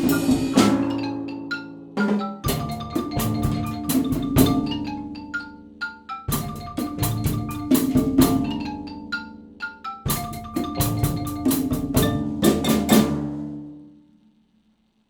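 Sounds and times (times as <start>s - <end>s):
xylophone melody: 0.0s - 13.1s
drums and struck percussion: 0.0s - 14.7s.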